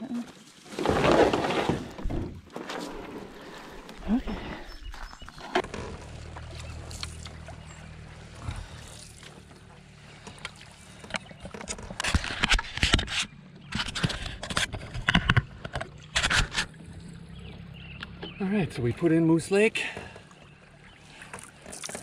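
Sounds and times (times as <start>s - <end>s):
canoe paddles splashing in water: 0.2s - 14.6s, 15.6s - 22.0s.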